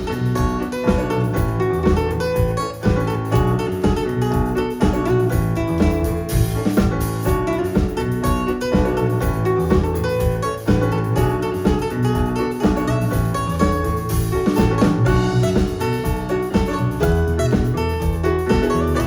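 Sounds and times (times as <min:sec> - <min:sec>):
live band playing a song: 0:00.0 - 0:19.0.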